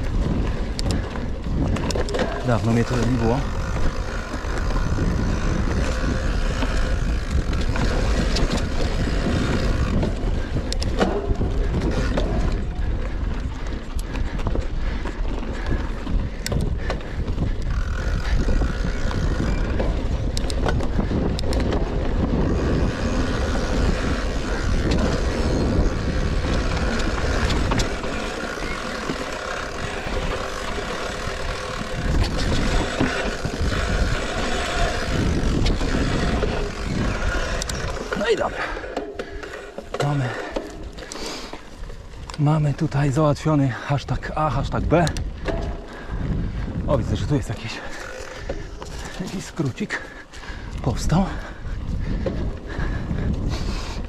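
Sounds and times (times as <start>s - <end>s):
bike rattles and knocks: 0.0s - 54.0s
bike tyre rumble: 0.0s - 54.0s
wind buffeting microphone: 0.0s - 54.0s.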